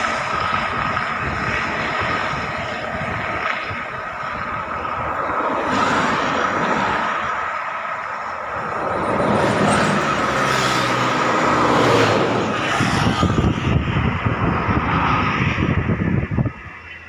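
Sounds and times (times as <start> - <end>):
bus driving past: 0.0 - 17.0
rumble of passing traffic: 0.0 - 17.0.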